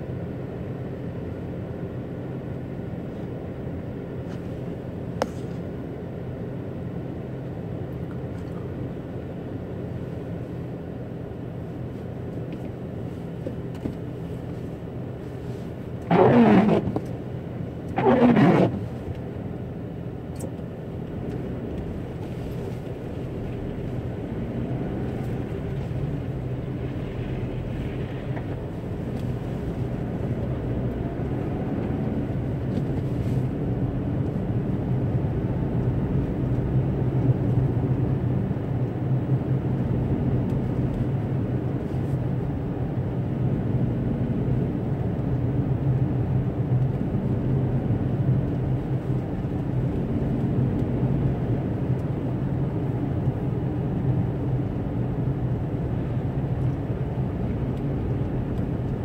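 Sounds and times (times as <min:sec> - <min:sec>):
car engine and tyre drone: 0:00.0 - 0:59.0.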